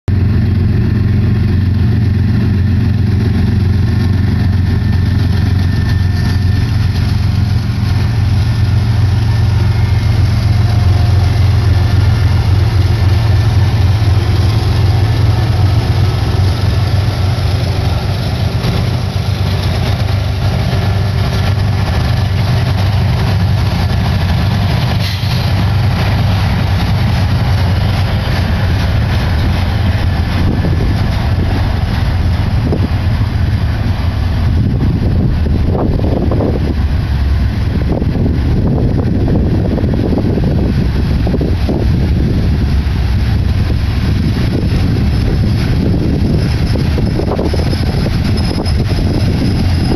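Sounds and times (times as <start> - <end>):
diesel locomotive engine drone: 0.0 - 49.9
steel wheels rolling on rails: 0.1 - 49.9.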